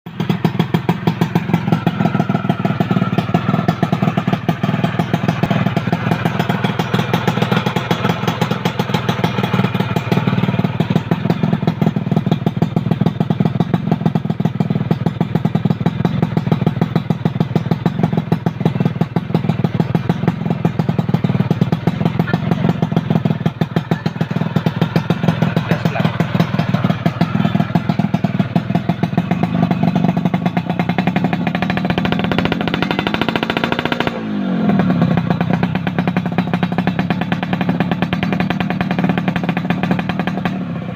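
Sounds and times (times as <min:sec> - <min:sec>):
two-stroke motorcycle engine idling: 0:00.1 - 0:40.9.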